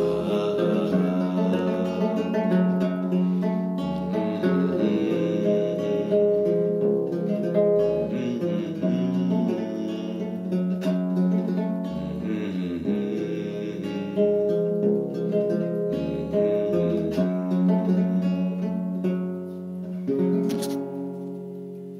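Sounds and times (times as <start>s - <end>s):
classical guitar playing: 0.0s - 21.9s.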